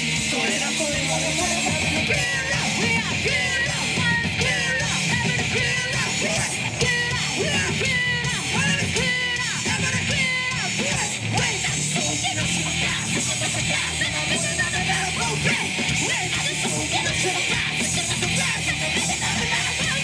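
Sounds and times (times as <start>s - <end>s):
live rock band playing: 0.0s - 20.0s
singer yelling and singing: 0.0s - 20.0s.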